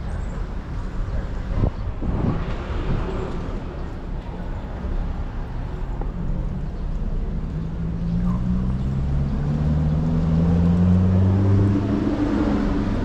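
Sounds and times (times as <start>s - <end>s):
low traffic rumble: 0.0s - 13.0s
vehicles passing: 0.0s - 13.0s.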